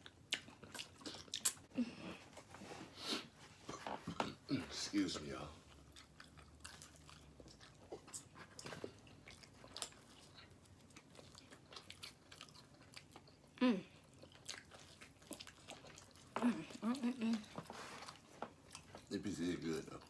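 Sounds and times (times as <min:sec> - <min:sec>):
chewing and biting pizza: 0:00.0 - 0:01.7, 0:03.7 - 0:20.0.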